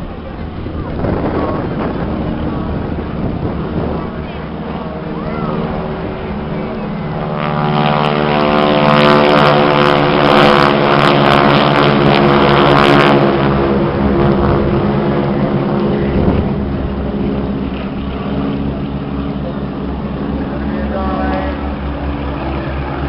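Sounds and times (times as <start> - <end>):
propeller planes droning overhead: 0.0 - 23.0.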